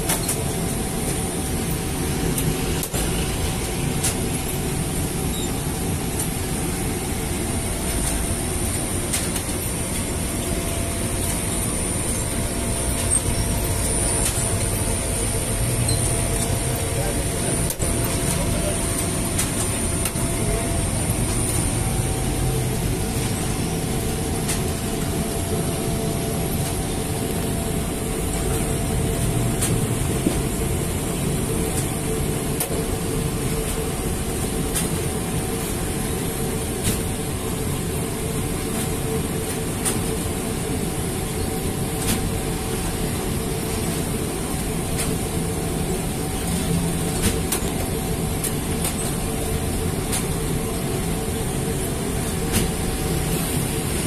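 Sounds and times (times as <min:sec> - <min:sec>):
constant machine hum: 0:00.0 - 0:54.0
conveyor and rollers rumbling: 0:00.0 - 0:54.0.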